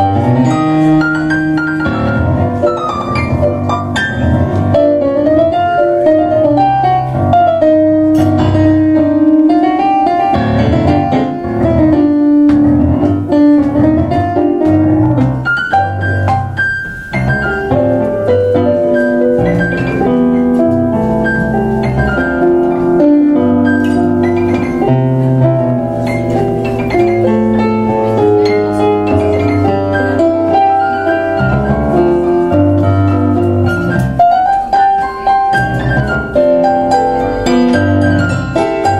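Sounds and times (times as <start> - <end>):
piano duet playing tango: 0.0 - 38.9.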